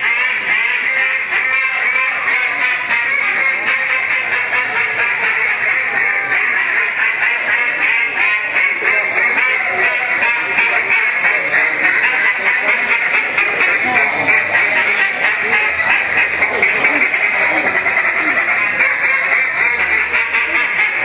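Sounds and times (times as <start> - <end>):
duck calls quacking: 0.0 - 21.0.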